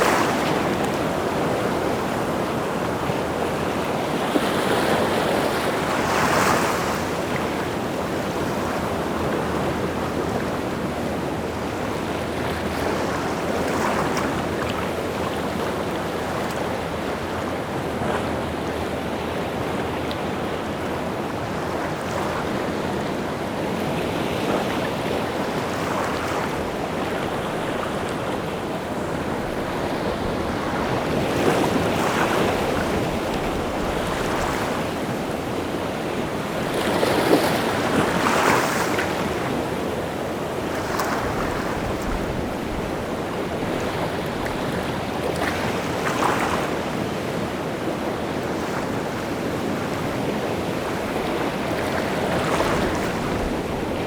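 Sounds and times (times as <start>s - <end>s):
waves breaking: 0.0s - 54.0s
wind: 0.0s - 54.0s.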